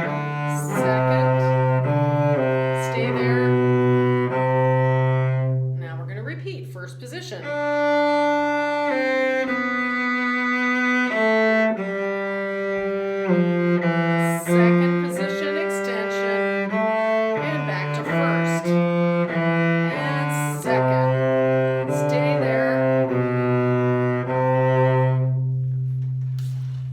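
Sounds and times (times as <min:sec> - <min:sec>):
cello playing slow melody: 0:00.0 - 0:06.0, 0:07.4 - 0:26.9.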